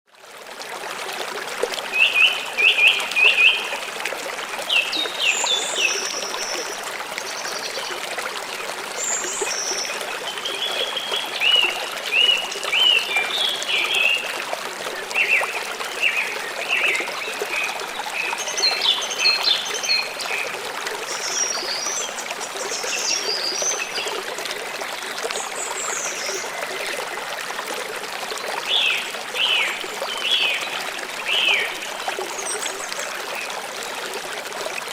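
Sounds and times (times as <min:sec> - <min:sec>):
small waterfall rushing: 0:00.1 - 0:34.9.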